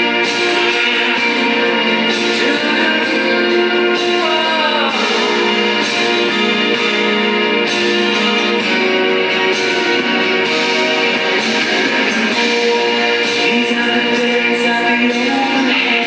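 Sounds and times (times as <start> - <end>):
instrumental guitar music: 0.0 - 16.0.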